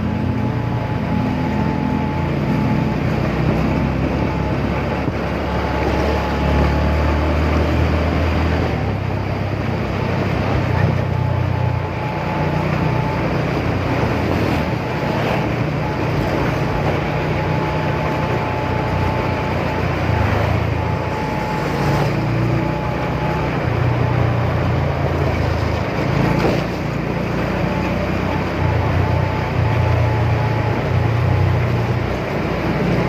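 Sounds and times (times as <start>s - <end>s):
motorcycle engine droning: 0.0s - 33.0s
wind and road noise: 0.0s - 33.0s.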